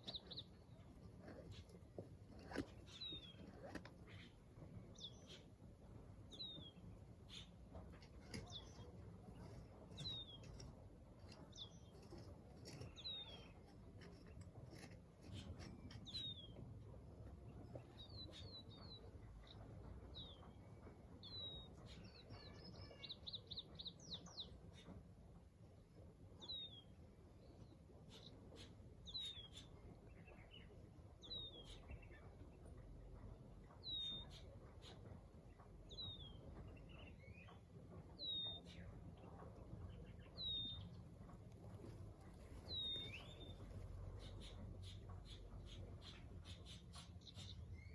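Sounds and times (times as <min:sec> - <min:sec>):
bird chirping: 0:00.0 - 0:05.6, 0:06.2 - 0:16.6, 0:17.5 - 0:24.9, 0:26.4 - 0:32.7, 0:33.7 - 0:47.9
outdoor background noise: 0:00.0 - 0:47.9.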